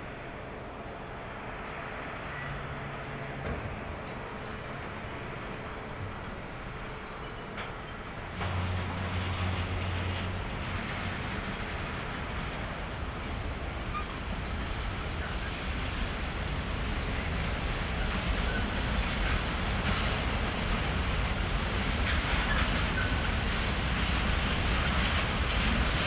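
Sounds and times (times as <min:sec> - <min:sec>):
electric train hum: 0:00.0 - 0:26.0
train rumble: 0:00.0 - 0:26.0.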